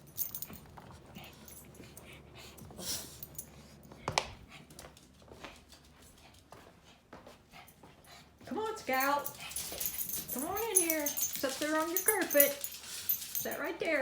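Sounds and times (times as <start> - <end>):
dogs rustling and shuffling: 0.0 - 14.0.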